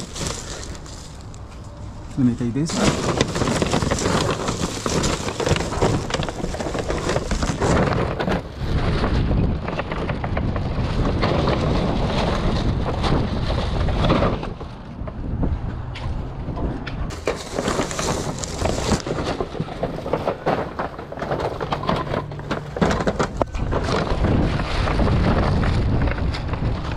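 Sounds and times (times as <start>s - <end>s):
plastic bag rustling: 0.0s - 1.6s, 2.2s - 14.0s, 17.1s - 26.9s.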